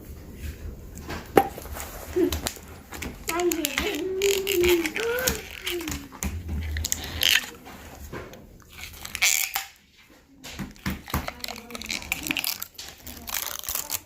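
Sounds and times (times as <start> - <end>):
plastic container crackling: 1.5 - 9.8, 10.5 - 14.0.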